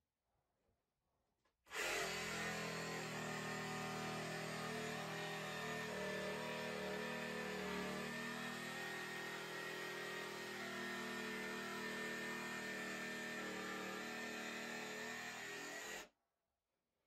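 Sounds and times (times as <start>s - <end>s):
jigsaw cutting particleboard: 1.7s - 16.1s.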